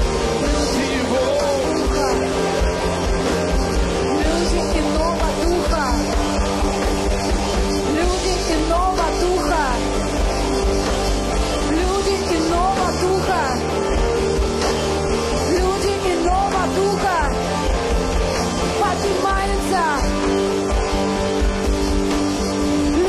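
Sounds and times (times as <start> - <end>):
live worship band music: 0.0 - 23.0.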